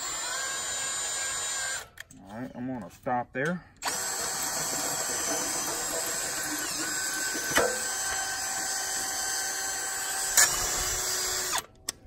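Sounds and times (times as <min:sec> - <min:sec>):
cordless drill running: 0:00.0 - 0:01.9, 0:03.8 - 0:11.7.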